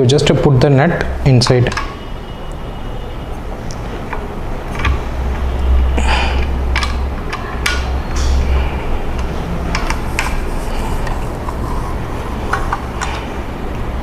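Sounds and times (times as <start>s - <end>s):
steady low hum: 2.0s - 14.0s.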